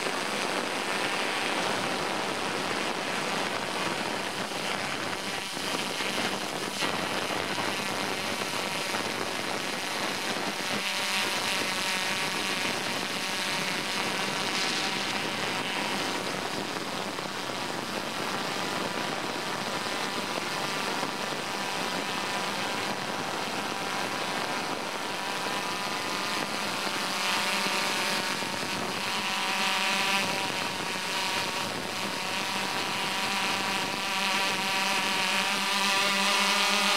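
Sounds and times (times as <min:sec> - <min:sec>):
motors and propellers droning: 0:00.0 - 0:36.9.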